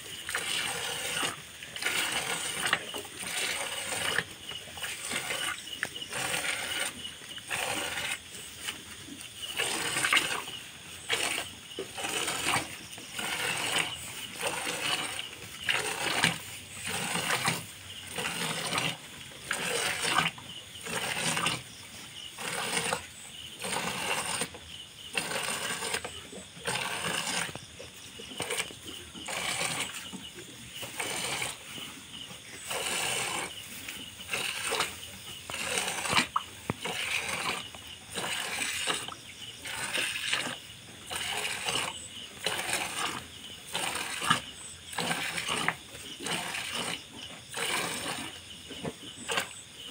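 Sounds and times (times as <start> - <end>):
milk squirting into bucket: 0.1 - 21.7, 22.3 - 27.6, 28.3 - 31.8, 32.6 - 48.4, 49.2 - 49.6.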